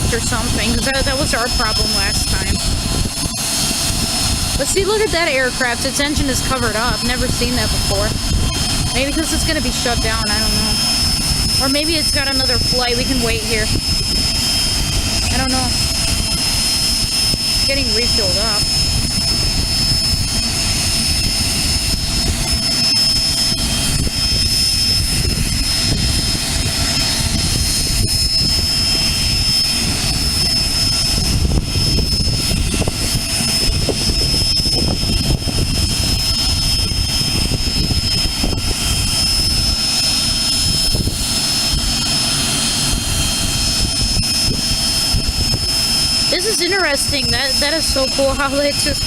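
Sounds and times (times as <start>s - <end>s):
jet engines idling: 0.0s - 49.0s.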